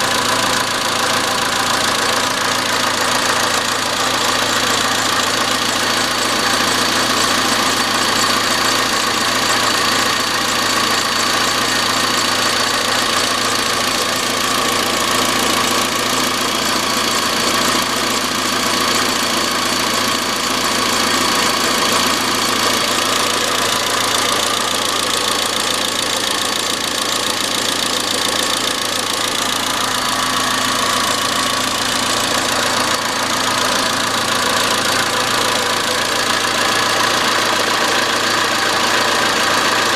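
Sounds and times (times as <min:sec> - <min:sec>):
car engine idling: 0:00.0 - 0:39.9
metallic engine knocking: 0:00.0 - 0:39.9.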